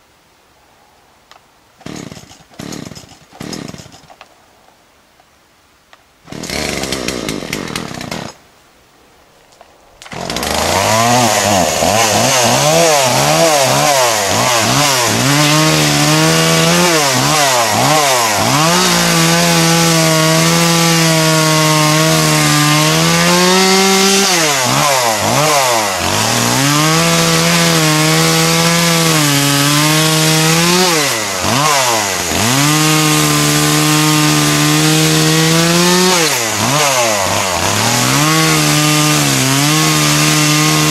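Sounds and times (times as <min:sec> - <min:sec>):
chainsaw cutting logs: 0:01.8 - 0:04.3, 0:06.2 - 0:08.4, 0:10.0 - 0:40.9.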